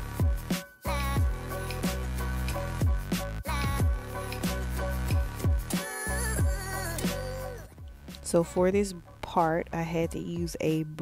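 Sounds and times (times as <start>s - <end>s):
music with sliding deep bass: 0.0s - 11.0s.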